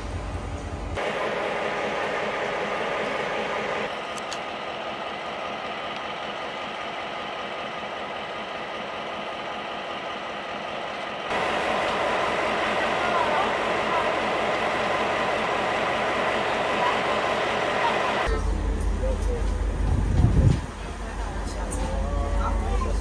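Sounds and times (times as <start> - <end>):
diesel locomotive idling: 0.0 - 23.0.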